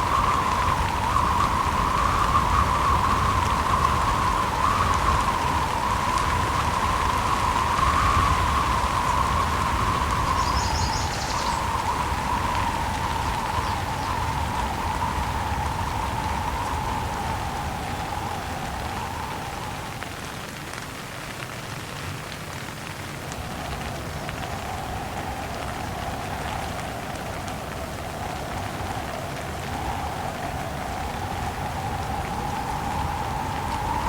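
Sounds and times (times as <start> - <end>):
gusting wind: 0.0 - 20.9, 23.1 - 34.0
steady rain: 0.0 - 34.0.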